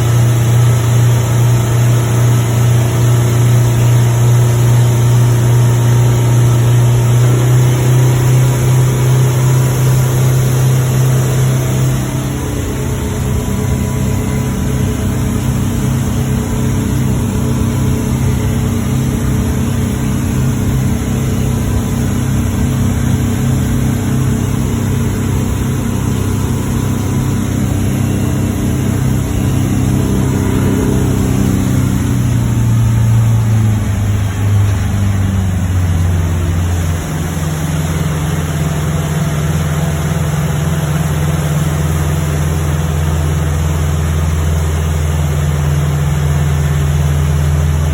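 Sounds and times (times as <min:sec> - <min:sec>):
boat diesel engine running: 0:00.0 - 0:47.9.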